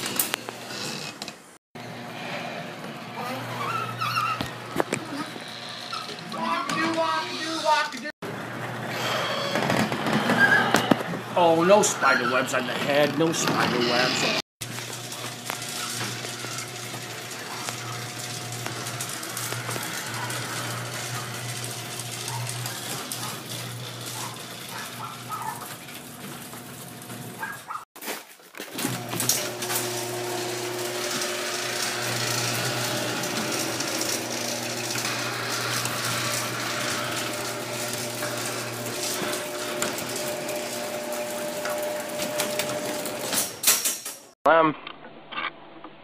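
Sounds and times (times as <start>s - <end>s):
machine motor whirring and rattling: 0.0s - 27.7s, 28.7s - 44.2s.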